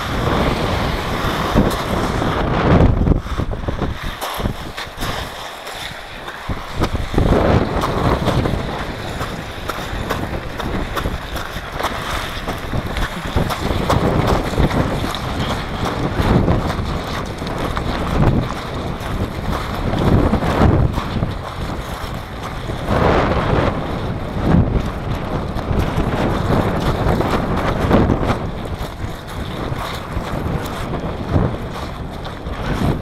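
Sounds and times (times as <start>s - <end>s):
bike tyres crunching on pebbles: 0.0s - 33.0s
wind buffeting microphone: 0.0s - 33.0s.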